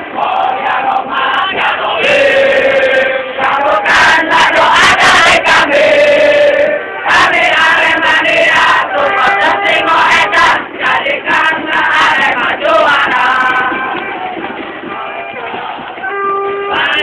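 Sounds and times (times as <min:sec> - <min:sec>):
crowd chanting: 0:00.0 - 0:17.0.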